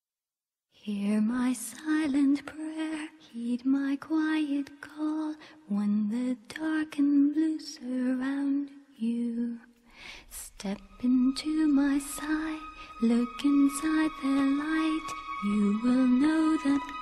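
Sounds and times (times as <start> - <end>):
woman singing slow melody: 0.8 - 17.0.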